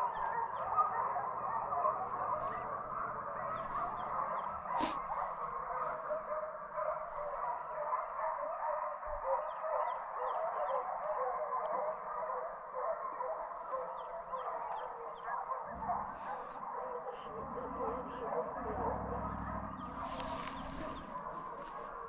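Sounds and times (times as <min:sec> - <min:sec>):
hounds baying and yelping: 0:00.0 - 0:22.0.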